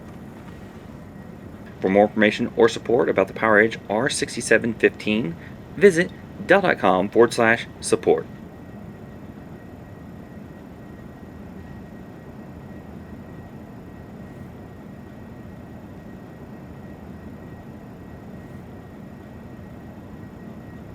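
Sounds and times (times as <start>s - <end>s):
faint high whine: 0.0s - 20.9s
low hum and hiss: 0.0s - 20.9s.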